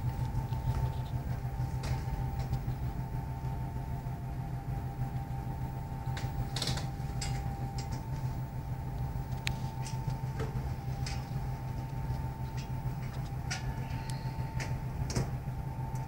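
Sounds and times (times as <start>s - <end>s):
faint steady whine: 0.0s - 16.0s
low machinery hum: 0.0s - 16.0s.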